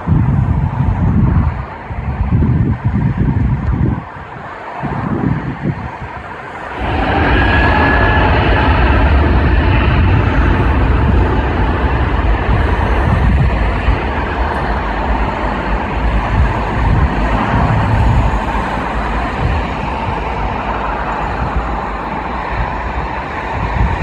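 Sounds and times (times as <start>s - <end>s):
jet engines roaring at take-off: 0.0s - 24.0s.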